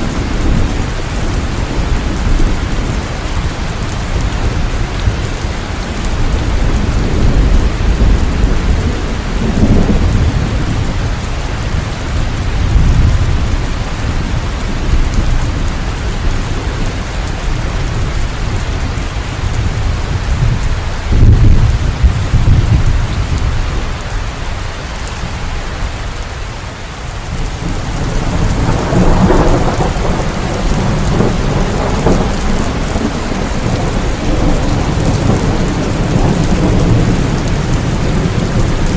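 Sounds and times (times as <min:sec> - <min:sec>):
rolling thunder: 0:00.0 - 0:24.1, 0:27.3 - 0:38.9
steady rain: 0:00.0 - 0:38.9.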